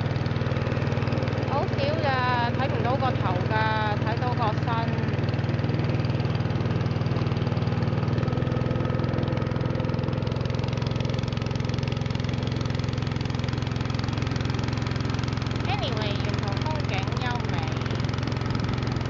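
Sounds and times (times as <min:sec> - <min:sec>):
boat motor droning: 0:00.0 - 0:19.0.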